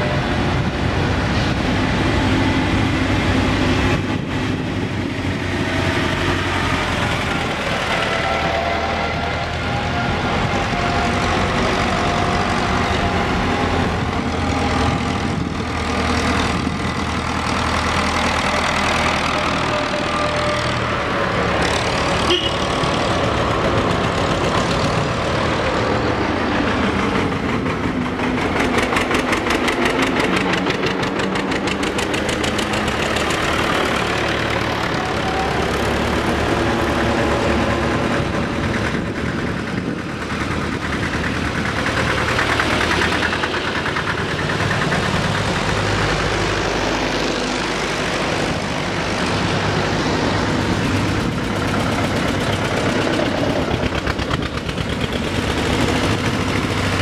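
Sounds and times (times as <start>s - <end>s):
tractor engines passing: 0.0s - 57.0s.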